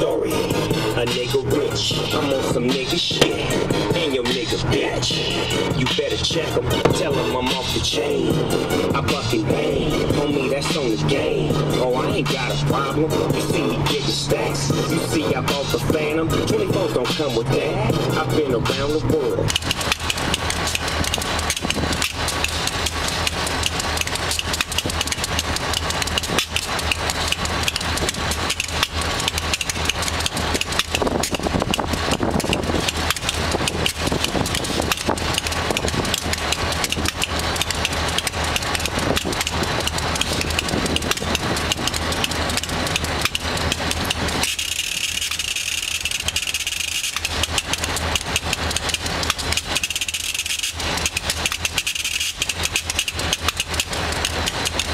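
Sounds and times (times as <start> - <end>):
constant rattling: 0.0 - 54.9
locomotive engine idling: 0.0 - 54.9.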